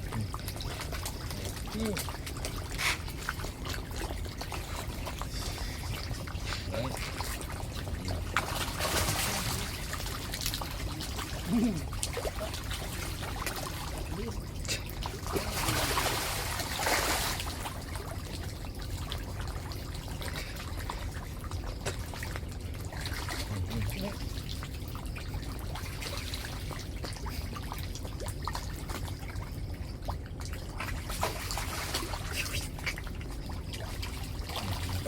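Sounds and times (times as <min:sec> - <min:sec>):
water trickling and pouring: 0:00.0 - 0:35.0.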